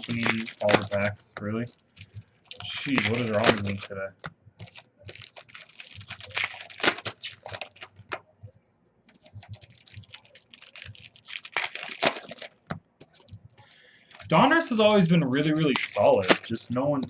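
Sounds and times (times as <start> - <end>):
card pack wrappers tearing: 0.0 - 8.2, 9.1 - 13.3, 14.1 - 17.0
cards rustling and flicking: 0.0 - 8.2, 9.1 - 13.5, 14.1 - 17.0.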